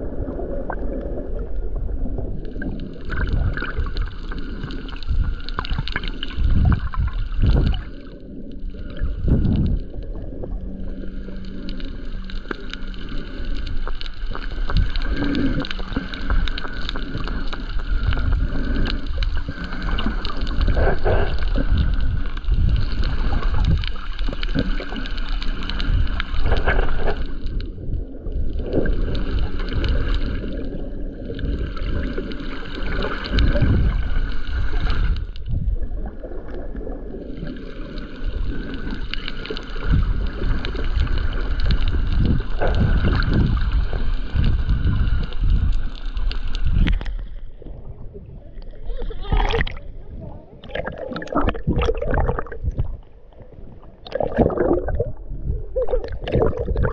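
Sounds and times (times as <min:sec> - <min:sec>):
muffled underwater rumble: 0:00.0 - 0:56.9
water gurgling past camera: 0:00.0 - 0:56.9.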